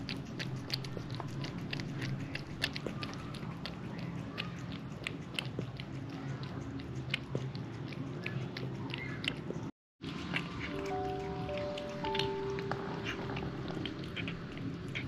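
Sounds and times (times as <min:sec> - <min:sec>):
cat licking kittens: 0:00.0 - 0:15.0.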